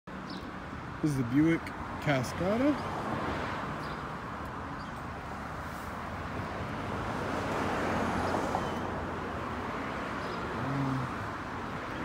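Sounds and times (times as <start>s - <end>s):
road traffic hiss: 0.1s - 12.0s.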